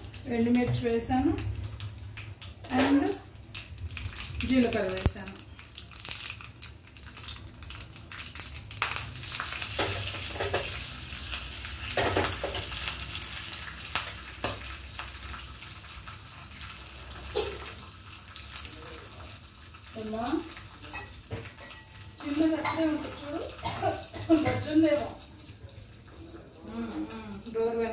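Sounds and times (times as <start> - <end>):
spices sizzling in hot oil: 0.0 - 27.9.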